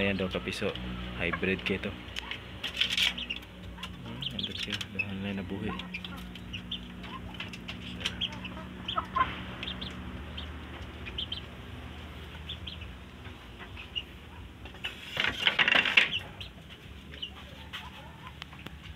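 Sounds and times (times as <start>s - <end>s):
chickens peeping and clucking: 0.0s - 18.9s.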